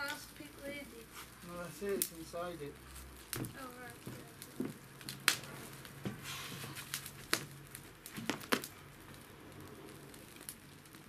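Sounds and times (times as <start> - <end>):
bonfire crackling: 0.0 - 11.0
sharp pops of fire: 0.0 - 11.0.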